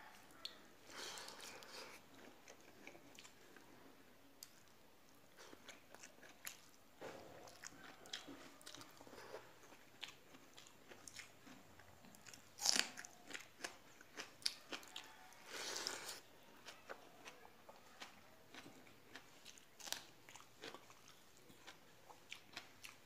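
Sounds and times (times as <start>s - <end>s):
person chewing crunchy food: 0.3s - 4.7s, 5.3s - 23.0s.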